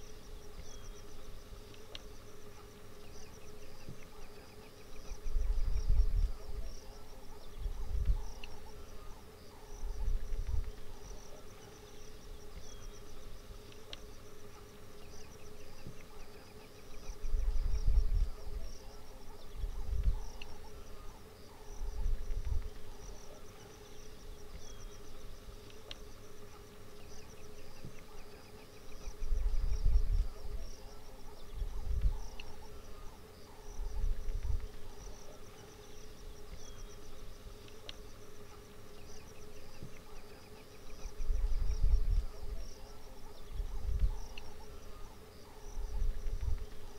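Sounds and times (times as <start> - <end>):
insects chirping: 0.0 - 46.9
steady low hum: 0.0 - 46.9.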